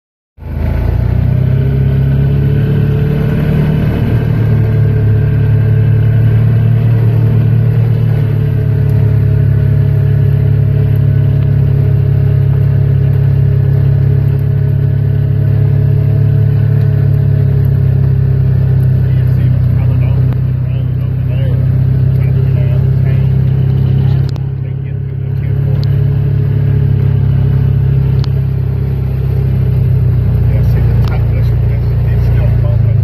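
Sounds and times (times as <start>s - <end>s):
vehicle engine running steadily: 0.4s - 33.0s.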